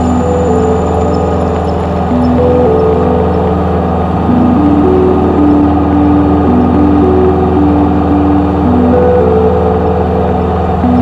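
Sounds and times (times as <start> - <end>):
light aircraft engine drone: 0.0 - 11.0.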